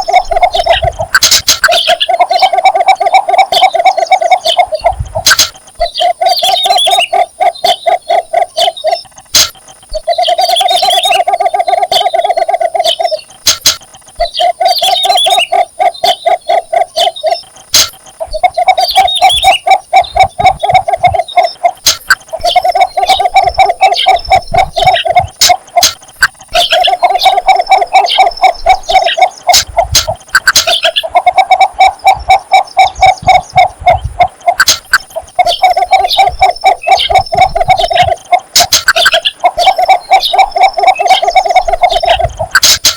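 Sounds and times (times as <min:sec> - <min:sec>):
bird giving pulsed low call: 0:00.0 - 0:42.8.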